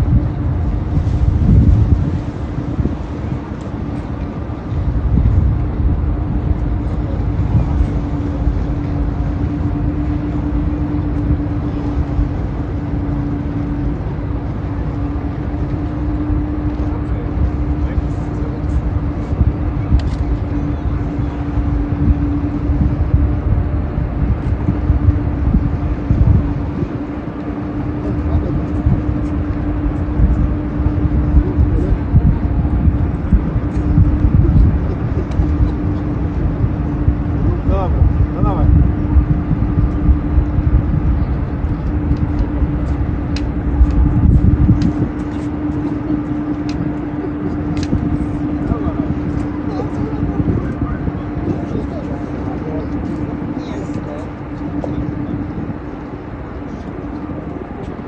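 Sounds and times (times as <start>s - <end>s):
low rumble: 0.0s - 58.0s
ship engine drone: 0.0s - 58.0s.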